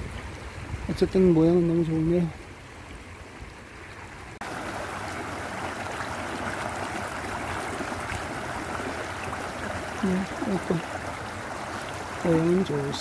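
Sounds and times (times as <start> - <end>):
creek water running over stones: 0.0 - 13.0.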